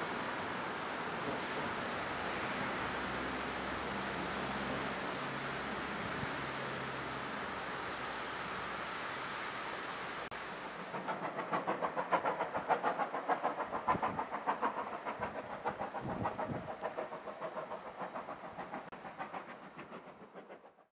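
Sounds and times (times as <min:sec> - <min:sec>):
steam locomotive exhaust beats: 0:00.0 - 0:20.9.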